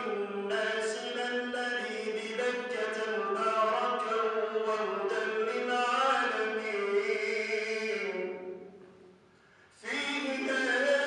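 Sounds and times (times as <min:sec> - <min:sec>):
man chanting unaccompanied: 0:00.0 - 0:08.7, 0:09.8 - 0:11.0.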